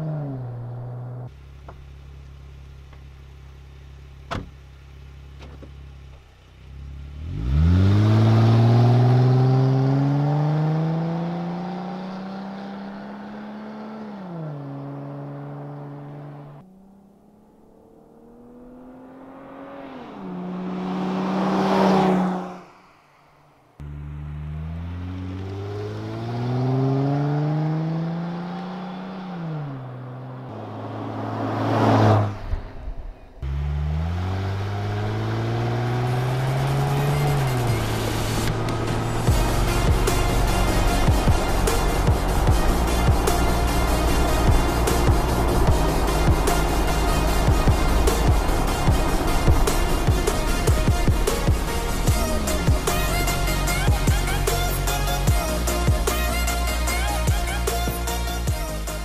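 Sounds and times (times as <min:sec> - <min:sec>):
car engine revving: 0:00.0 - 0:59.0
car driving by: 0:06.1 - 0:59.0.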